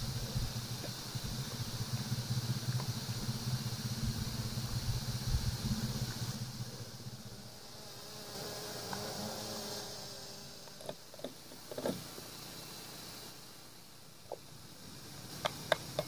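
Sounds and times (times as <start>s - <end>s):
flying insect buzzing: 0.0s - 16.0s
high-pitched insect hiss: 0.0s - 16.0s.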